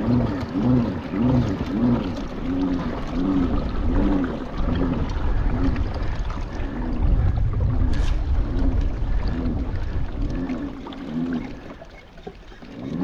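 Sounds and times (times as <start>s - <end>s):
kayak pedal drive whirring: 0.0s - 13.0s
water washing against hull: 0.0s - 13.0s.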